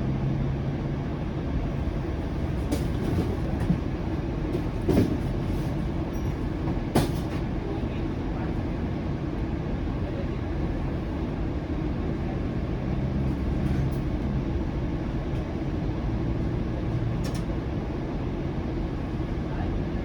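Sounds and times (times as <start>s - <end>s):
streetcar rumbling on rails: 0.0s - 20.0s.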